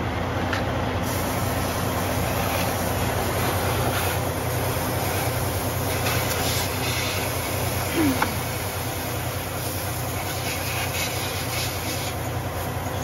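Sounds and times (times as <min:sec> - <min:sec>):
steady low hum: 0:00.0 - 0:13.0
compressed air hissing: 0:01.0 - 0:13.0.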